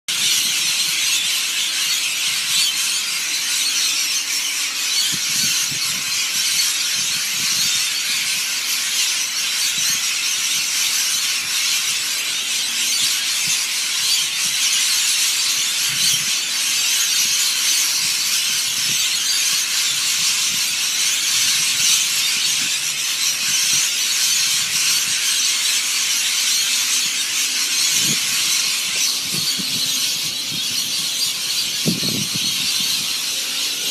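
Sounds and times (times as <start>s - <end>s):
flock of birds screeching: 0.1s - 33.9s.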